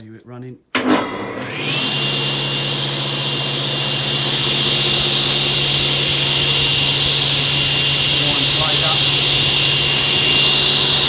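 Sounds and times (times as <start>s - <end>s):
table saw running: 0.8s - 11.0s.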